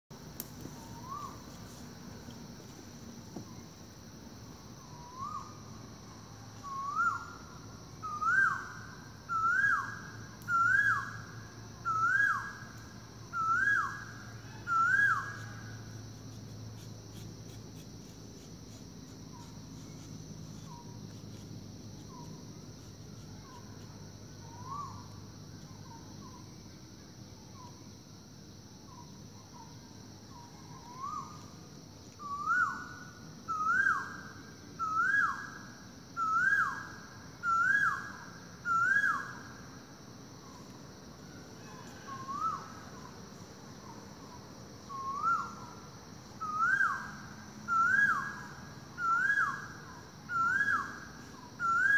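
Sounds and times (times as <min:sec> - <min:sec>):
steady high hiss: 0:00.1 - 0:51.9.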